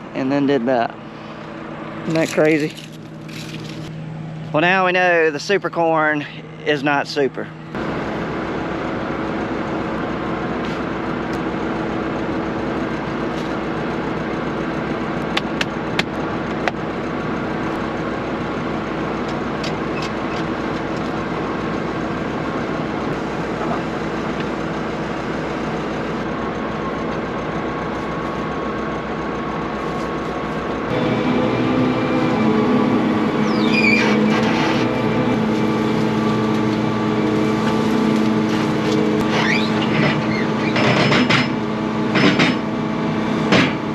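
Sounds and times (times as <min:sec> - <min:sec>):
combine harvester engine hum: 0:00.0 - 0:43.9.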